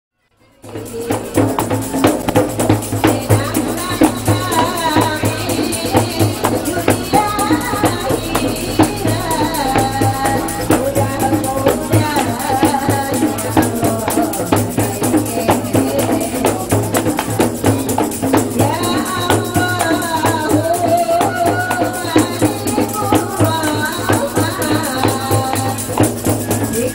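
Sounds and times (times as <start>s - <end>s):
woman singing into a microphone: 0.4s - 26.9s
jingling tambourine: 0.5s - 26.9s
hand-beaten frame drums: 0.6s - 26.9s.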